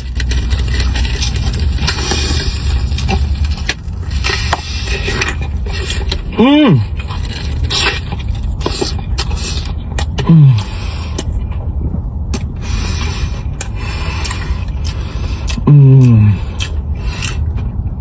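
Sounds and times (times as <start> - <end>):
chewing crispy food: 0.0 - 17.8
low rumble: 0.0 - 18.0.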